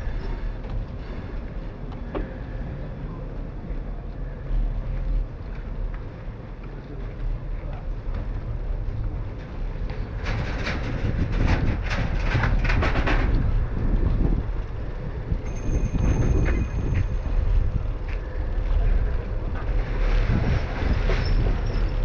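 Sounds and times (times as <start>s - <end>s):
wind and tyres rumble: 0.0s - 22.0s.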